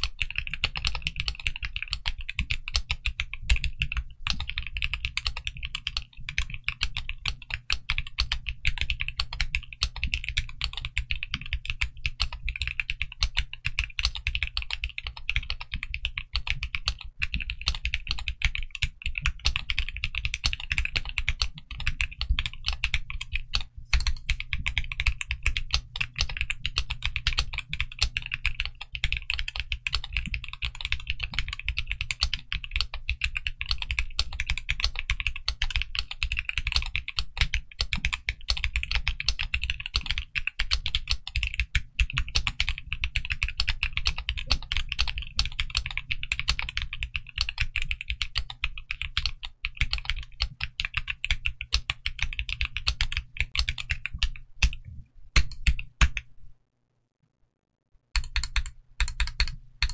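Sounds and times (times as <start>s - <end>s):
fast mechanical keyboard typing: 0.0s - 56.3s, 58.1s - 59.9s.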